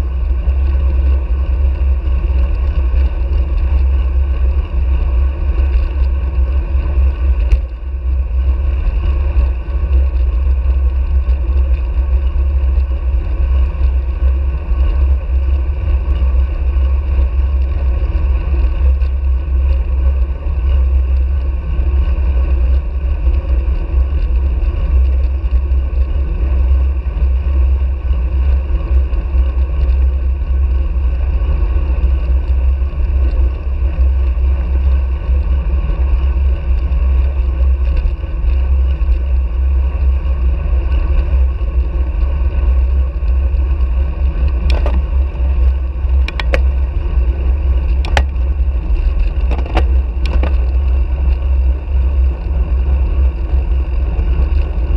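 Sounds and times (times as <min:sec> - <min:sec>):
tyre and road noise: 0:00.0 - 0:54.9.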